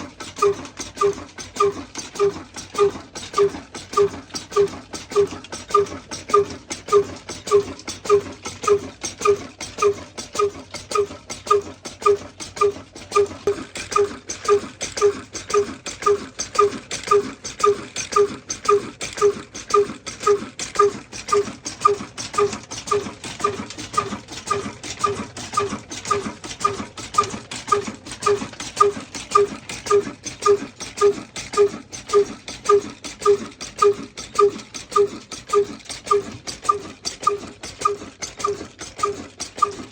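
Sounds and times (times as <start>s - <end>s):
diesel engine thudding exhaust: 0.0s - 39.9s.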